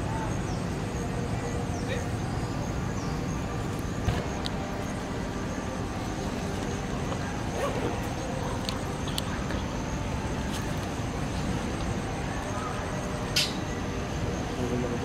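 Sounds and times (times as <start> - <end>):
faint high whine: 0.0 - 15.0
low hum and hiss: 0.0 - 15.0.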